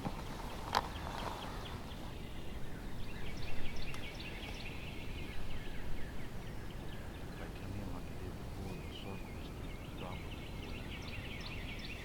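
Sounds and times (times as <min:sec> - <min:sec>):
outdoor ambience: 0:00.0 - 0:12.0
small birds chirping: 0:00.0 - 0:12.0.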